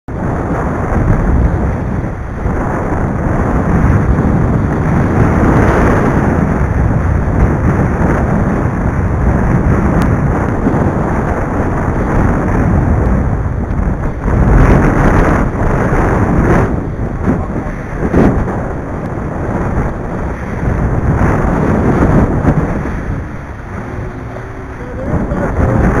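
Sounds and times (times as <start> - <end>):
waves and spray: 0.1 - 26.0
wind buffeting microphone: 0.1 - 26.0.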